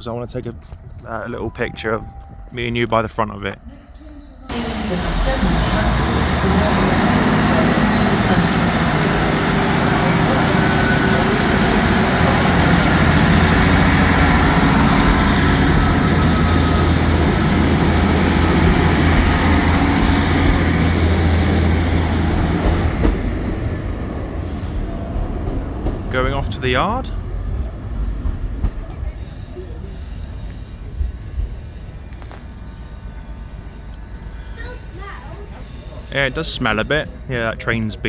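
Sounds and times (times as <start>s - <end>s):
diesel locomotive engine drone: 4.4s - 38.0s.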